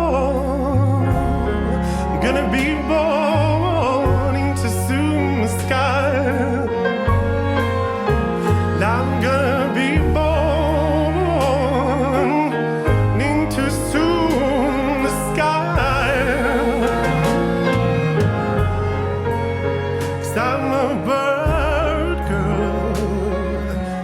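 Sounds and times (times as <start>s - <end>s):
low bass notes: 0.0s - 24.0s.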